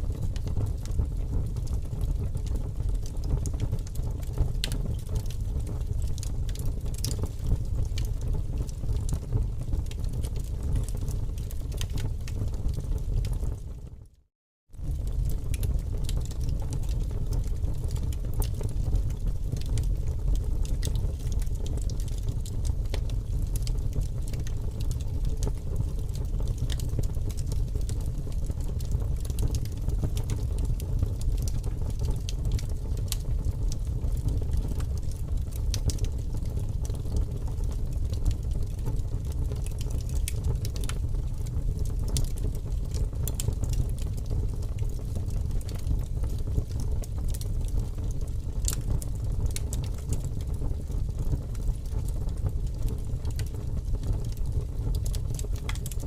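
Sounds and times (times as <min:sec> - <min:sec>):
fire low rumble: 0:00.0 - 0:13.9, 0:14.7 - 0:56.0
fire crackles and pops: 0:00.0 - 0:14.1, 0:14.8 - 0:56.0.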